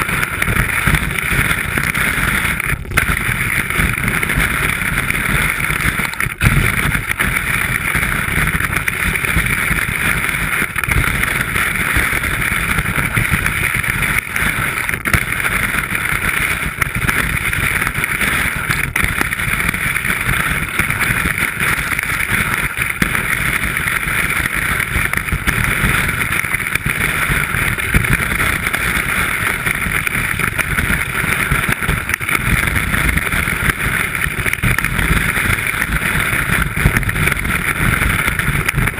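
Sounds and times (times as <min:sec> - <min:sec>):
skis running over snow: 0:00.0 - 0:38.9
wind over camera housing: 0:00.0 - 0:38.9.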